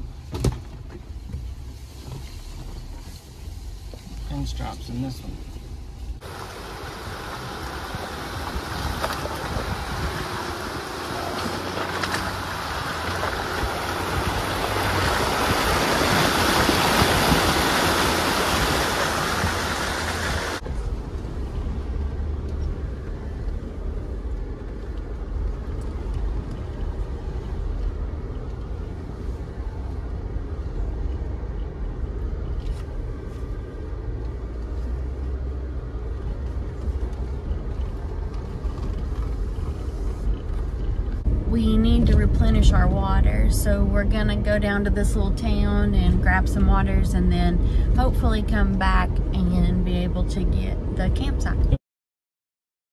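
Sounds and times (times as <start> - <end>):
vehicle road and engine rumble: 0.0 - 51.8.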